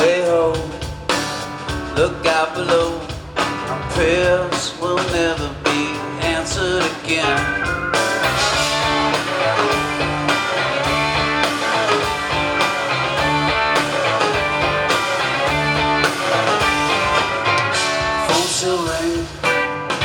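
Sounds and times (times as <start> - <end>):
bass: 0.0 - 20.0
electric guitars: 0.0 - 20.0
steady drum beat: 0.0 - 20.0.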